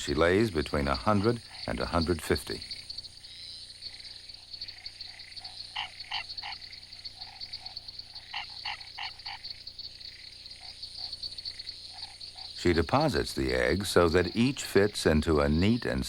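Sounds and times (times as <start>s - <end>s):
frogs croaking: 0.0s - 16.0s
insects trilling: 0.0s - 16.0s.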